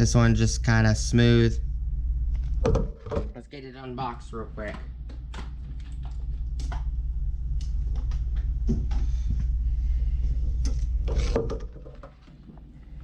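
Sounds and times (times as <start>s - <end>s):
steady low rumble: 0.0s - 11.3s.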